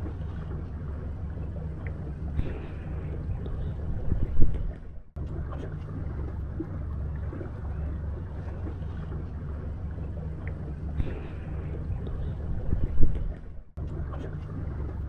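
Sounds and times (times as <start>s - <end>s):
boat motor humming: 0.0s - 15.0s
water noise: 0.0s - 15.0s
wind: 0.0s - 15.0s.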